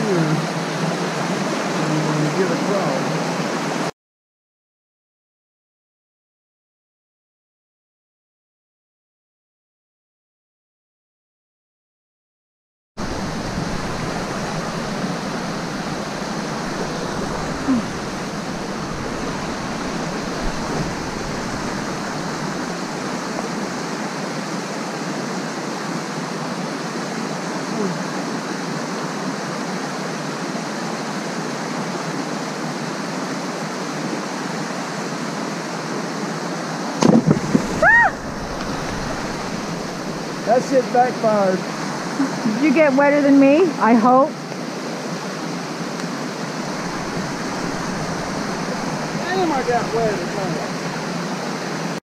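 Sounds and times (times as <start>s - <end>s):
creek rushing over stones: 0.0s - 3.9s, 13.0s - 43.1s, 44.1s - 52.0s.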